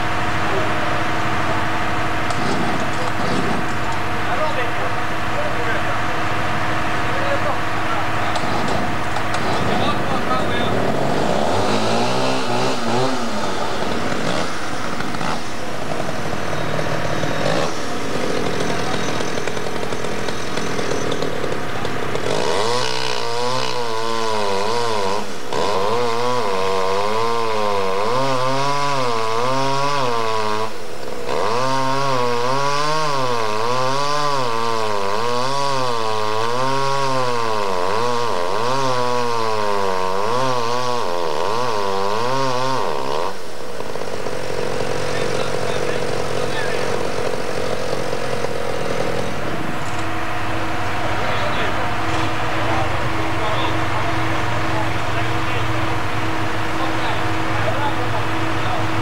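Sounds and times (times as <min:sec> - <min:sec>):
two-stroke chainsaw running: 0:00.0 - 0:59.0.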